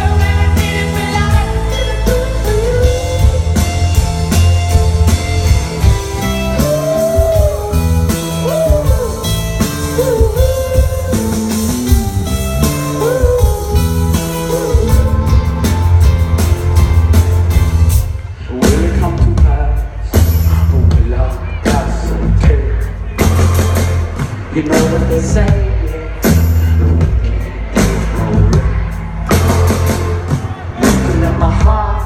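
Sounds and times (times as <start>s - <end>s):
person singing: 0.0s - 4.8s, 5.4s - 16.0s, 18.4s - 23.4s, 24.5s - 32.0s
rock band playing live: 0.0s - 32.0s.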